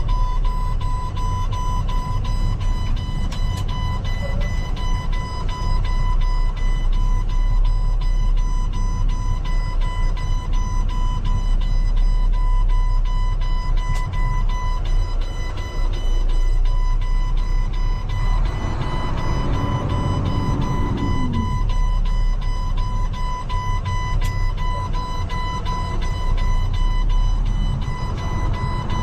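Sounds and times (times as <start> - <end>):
rapid electronic warning beeps: 0.0 - 29.0
truck diesel engine running: 0.0 - 29.0.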